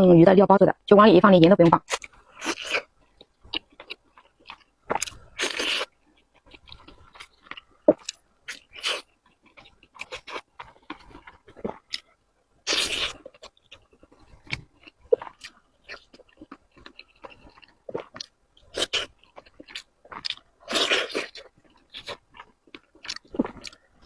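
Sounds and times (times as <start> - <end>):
person chewing food: 1.9 - 24.0.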